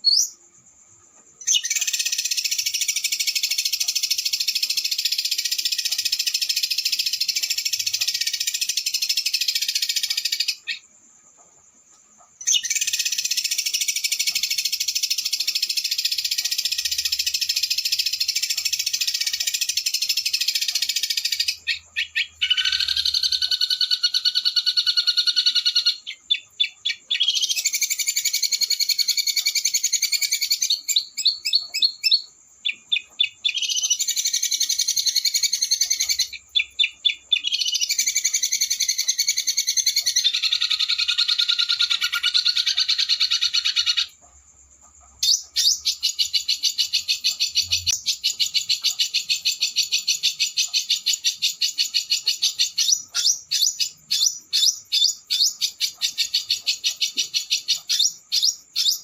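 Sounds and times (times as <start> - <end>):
songbird trilling: 1.4 - 10.8, 12.4 - 44.2, 45.2 - 59.0.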